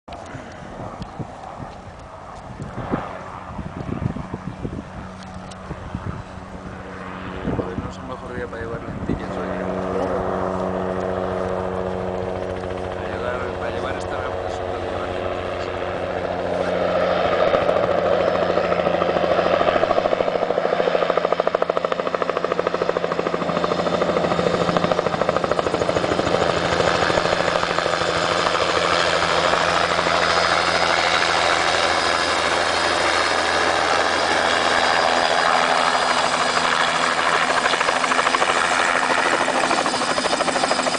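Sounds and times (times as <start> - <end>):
helicopter rotor blades beating: 0.1 - 40.9.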